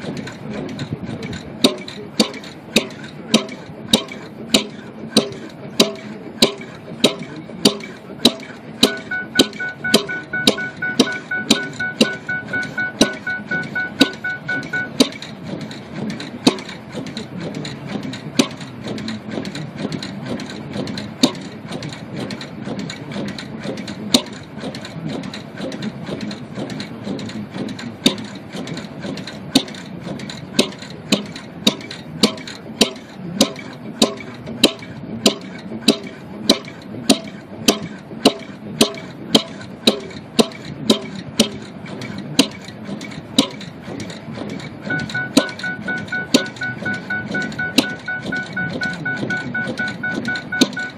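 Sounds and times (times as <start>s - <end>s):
pump engine knocking: 0.0s - 50.9s.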